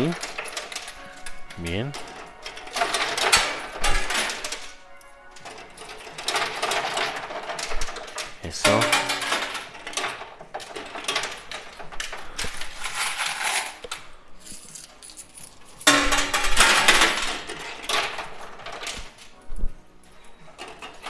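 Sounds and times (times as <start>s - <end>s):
coins clattering in arcade machine: 0.0s - 19.4s, 20.2s - 21.0s.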